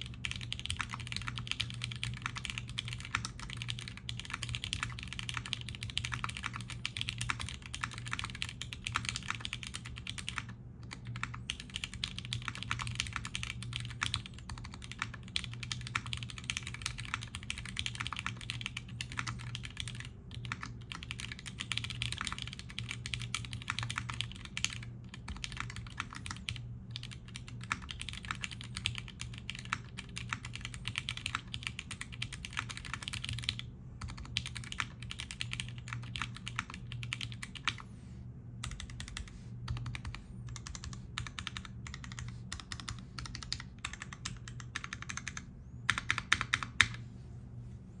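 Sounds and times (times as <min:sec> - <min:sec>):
mechanical keyboard typing: 0:00.0 - 0:37.8, 0:38.6 - 0:47.0.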